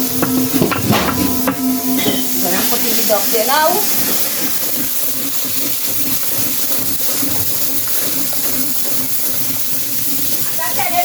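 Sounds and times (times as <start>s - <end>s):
meat sizzling in curry: 0.0s - 11.0s.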